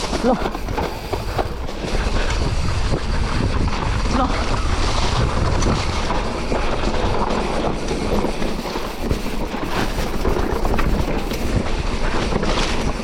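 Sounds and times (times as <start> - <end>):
bike rumbling and rattling: 0.0 - 13.0
wind buffeting microphone: 0.0 - 13.0.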